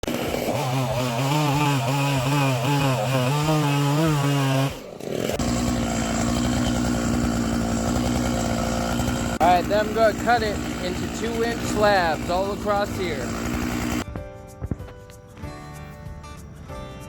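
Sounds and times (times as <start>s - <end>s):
chainsaw cutting wood: 0.0s - 14.1s.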